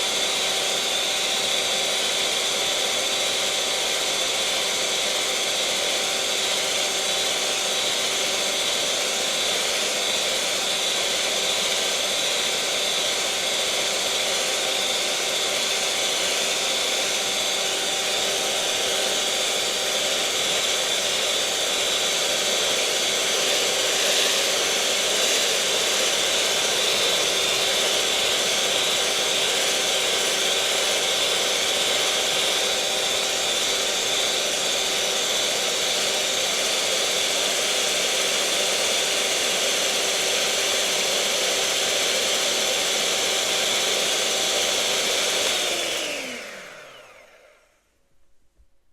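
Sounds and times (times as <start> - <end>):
electric mixer motor running: 0.0 - 47.9.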